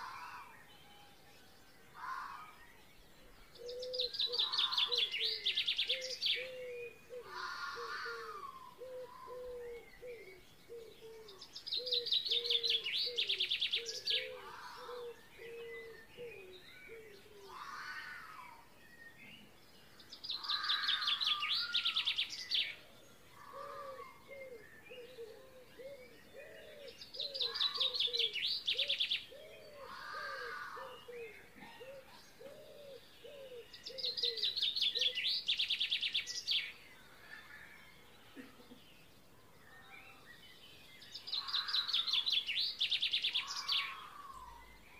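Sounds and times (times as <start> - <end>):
birds calling: 1.8 - 44.9.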